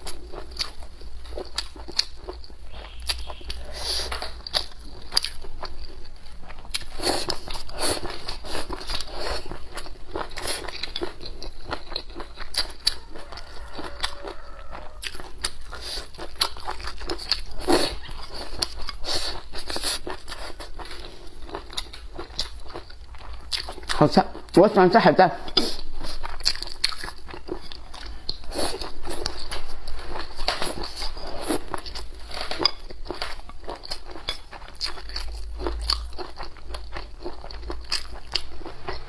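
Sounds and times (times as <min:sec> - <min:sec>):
mouth chewing crunchy food: 0:00.0 - 0:39.0.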